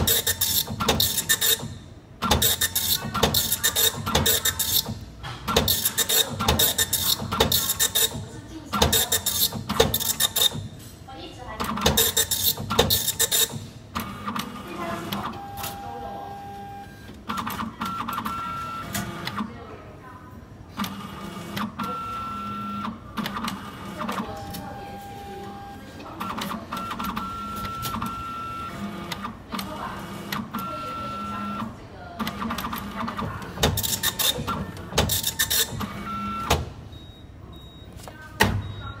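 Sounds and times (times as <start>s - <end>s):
printer clicking and whirring: 0.0s - 10.8s, 11.6s - 19.5s, 20.7s - 36.8s.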